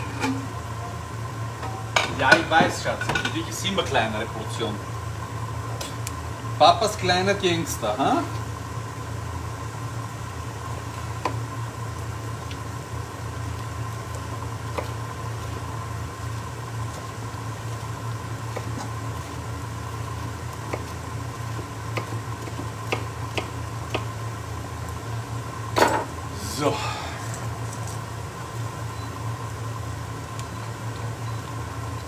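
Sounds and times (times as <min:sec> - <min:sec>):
low hum with faint whine: 0:00.0 - 0:32.0.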